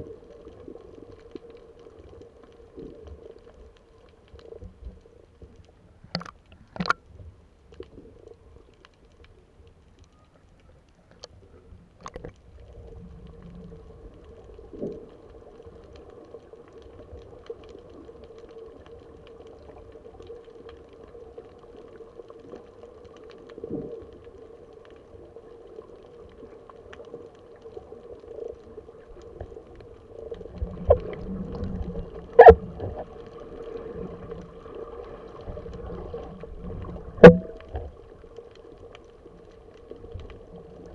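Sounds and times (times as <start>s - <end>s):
water swishing underwater: 0.0s - 40.9s.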